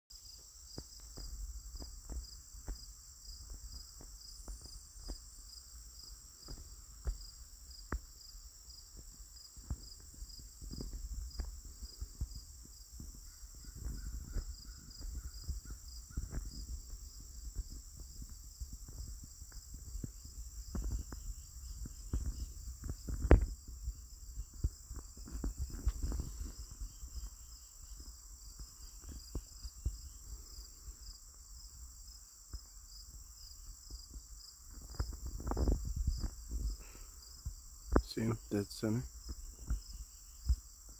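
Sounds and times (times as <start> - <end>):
crickets trilling: 0.1 - 40.9
low crackles and knocks: 0.4 - 5.7, 6.4 - 31.8, 32.5 - 40.9.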